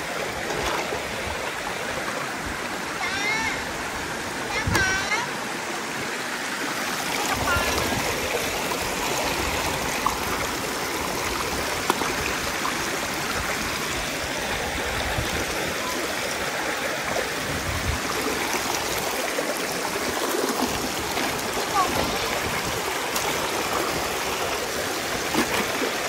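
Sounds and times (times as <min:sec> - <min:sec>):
stream rushing over rock: 0:00.0 - 0:26.0.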